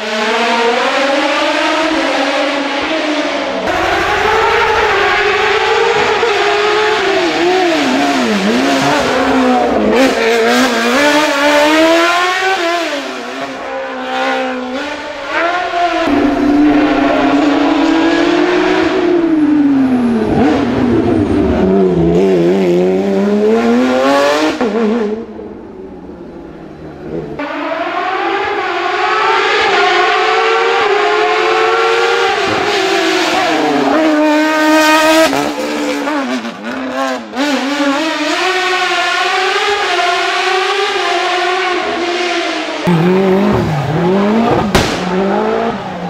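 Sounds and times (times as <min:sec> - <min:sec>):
racing car engines accelerating: 0:00.0 - 0:46.0.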